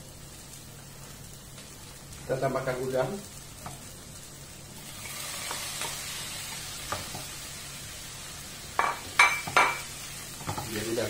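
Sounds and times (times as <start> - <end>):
shrimp sizzling in a frying pan: 0.0 - 11.0.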